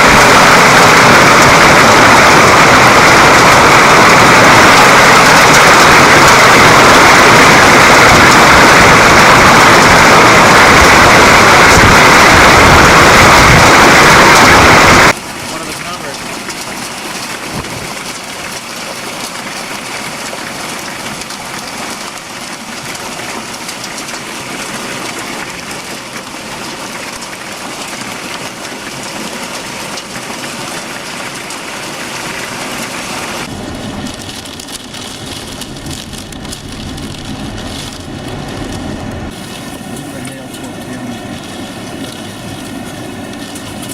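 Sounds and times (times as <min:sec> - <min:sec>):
heavy rain pelting down: 0:00.0 - 0:43.9.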